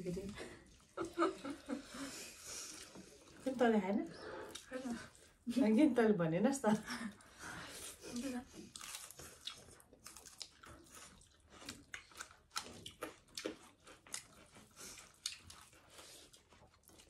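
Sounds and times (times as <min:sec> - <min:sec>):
person chewing: 0:00.6 - 0:03.6, 0:04.2 - 0:05.4, 0:07.2 - 0:17.0.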